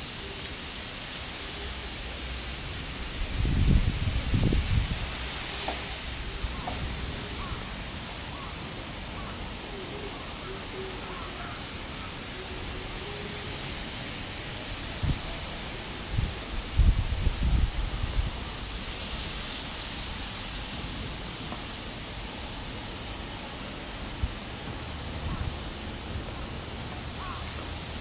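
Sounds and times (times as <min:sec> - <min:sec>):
insect chorus trilling: 0:00.0 - 0:28.0.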